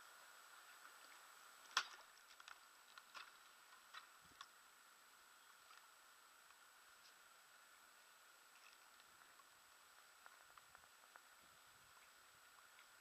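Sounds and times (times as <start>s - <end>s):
faint high hiss: 0.0s - 13.0s.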